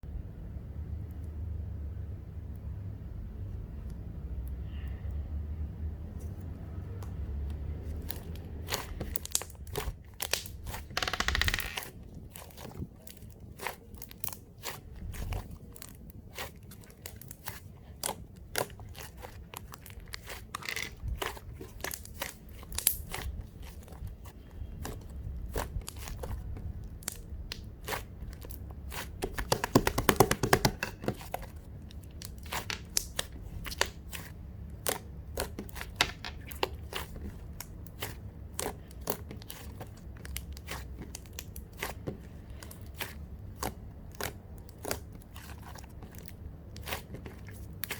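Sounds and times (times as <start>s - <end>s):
apple crunching: 7.1s - 47.9s.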